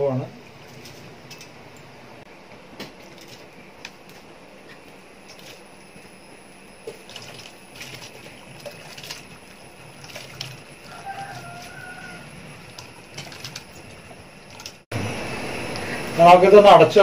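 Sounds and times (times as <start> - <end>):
boiling water hissing: 0.0 - 17.0.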